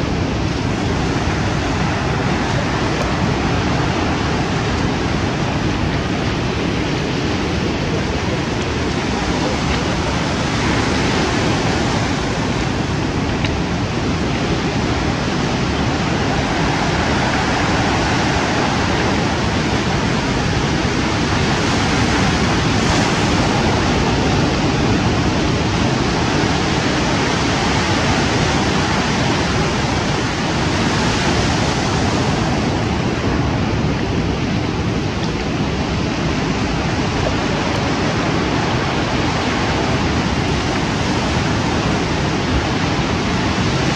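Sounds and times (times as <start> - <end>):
waves breaking on pebble beach: 0.0 - 43.9.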